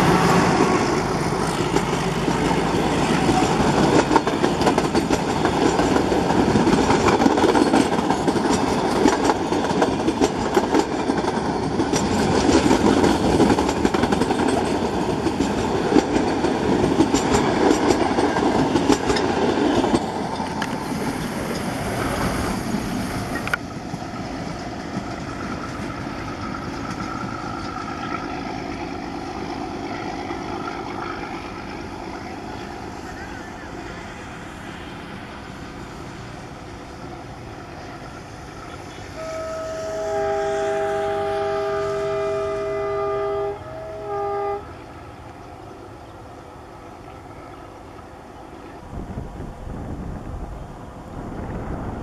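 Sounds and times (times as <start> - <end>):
distant train rumble: 0.0 - 52.0
train coaches rattling past: 0.0 - 52.0.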